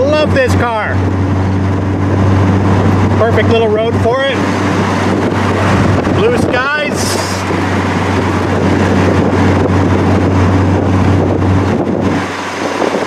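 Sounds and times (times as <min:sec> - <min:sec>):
car engine running: 0:00.0 - 0:13.0
wind on microphone: 0:00.0 - 0:13.0.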